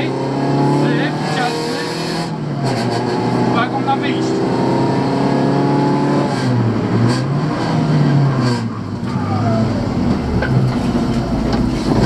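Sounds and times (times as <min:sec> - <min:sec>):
car engine pulling hard: 0:00.0 - 0:12.0.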